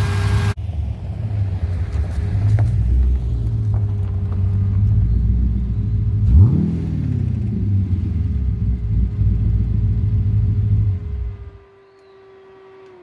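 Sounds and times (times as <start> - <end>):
car engine rumbling and revving: 0.0 - 13.0.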